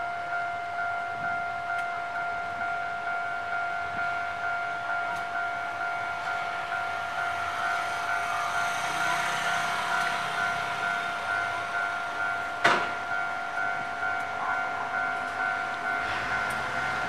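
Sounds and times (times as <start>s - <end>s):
crossing signal electronic tone: 0.0s - 17.0s
train running noise: 0.0s - 17.0s.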